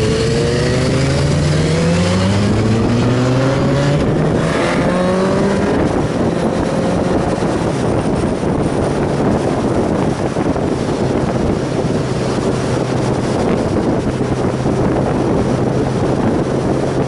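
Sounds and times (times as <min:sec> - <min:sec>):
motorcycle engine accelerating: 0:00.0 - 0:17.0
wind noise on microphone: 0:00.0 - 0:17.0.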